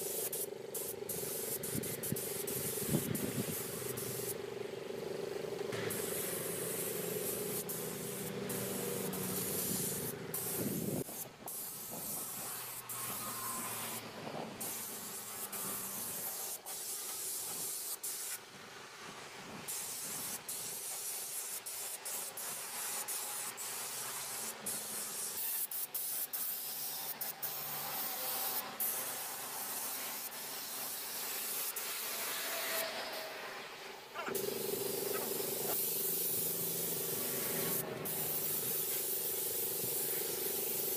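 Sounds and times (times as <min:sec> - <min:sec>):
paint spray gun hissing: 0:00.0 - 0:18.4, 0:19.7 - 0:33.3, 0:34.2 - 0:40.9.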